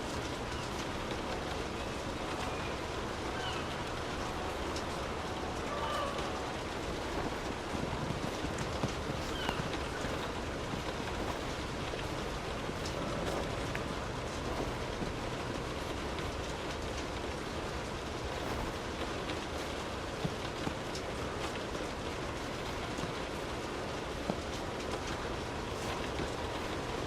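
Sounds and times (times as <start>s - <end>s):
rain falling on street: 0.0s - 27.0s
sharp raindrop ticks: 0.0s - 27.0s.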